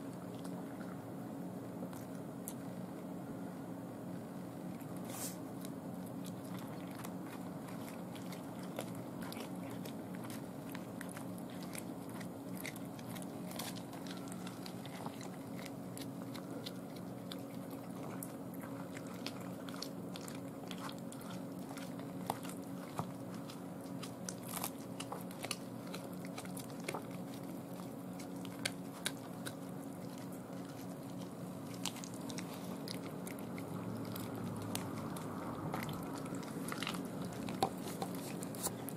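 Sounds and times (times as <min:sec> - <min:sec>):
cats chewing and crunching: 0:00.0 - 0:38.9
steady low hum: 0:00.0 - 0:38.9
small bones cracking: 0:06.5 - 0:38.8.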